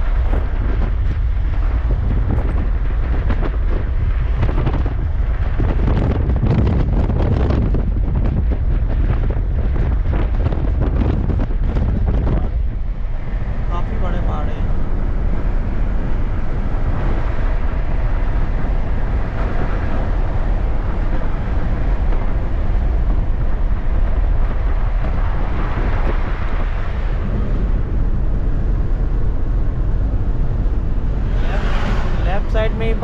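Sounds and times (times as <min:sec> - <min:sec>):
car road and wind noise: 0:00.0 - 0:33.0
strong low rumble: 0:00.0 - 0:33.0.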